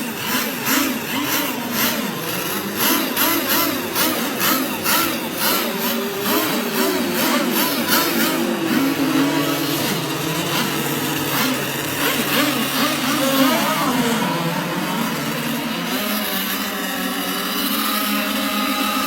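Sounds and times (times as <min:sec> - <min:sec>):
two-stroke boat engines droning: 0:00.0 - 0:19.0.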